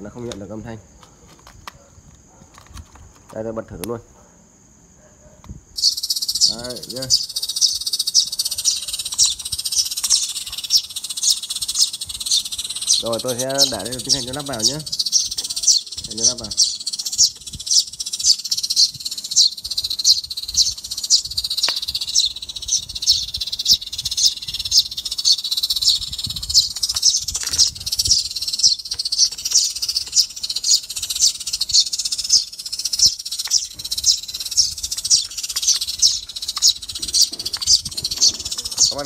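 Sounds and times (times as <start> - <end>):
sparrow calls from a speaker: 5.8 - 39.0.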